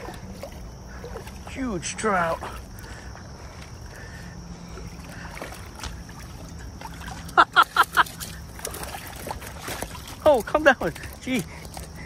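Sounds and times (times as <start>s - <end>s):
creek water over gravel: 0.0s - 12.0s
light water splashes: 0.0s - 12.0s.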